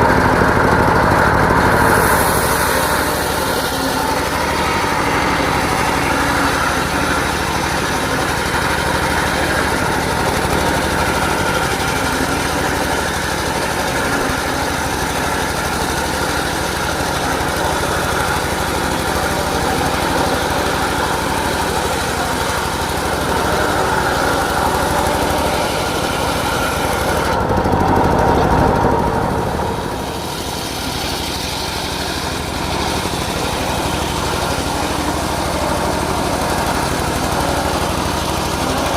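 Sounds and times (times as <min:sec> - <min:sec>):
circular sawmill running: 0:00.0 - 0:38.9.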